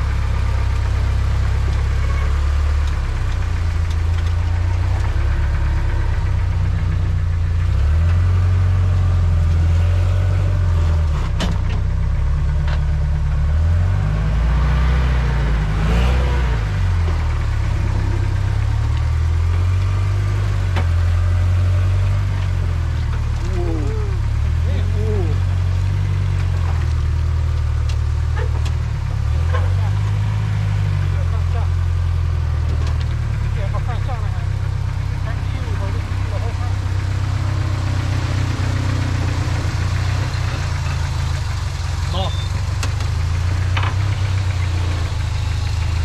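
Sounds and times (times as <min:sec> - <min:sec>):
truck engine running at low revs: 0:00.0 - 0:46.0.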